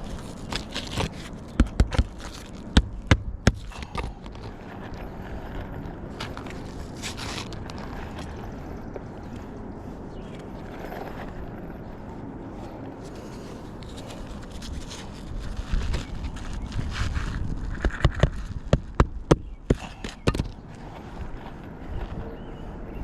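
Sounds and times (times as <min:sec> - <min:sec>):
scraping on shingle roof: 0:00.0 - 0:22.4.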